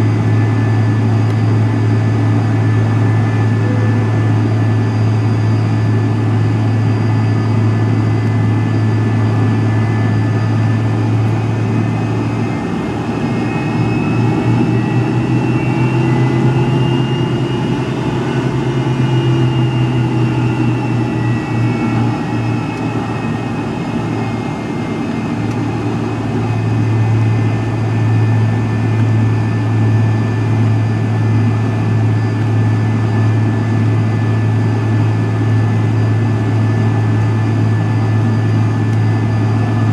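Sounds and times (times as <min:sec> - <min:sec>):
high whining engine tones: 0:00.0 - 0:39.9
jet engine cabin drone: 0:00.0 - 0:39.9.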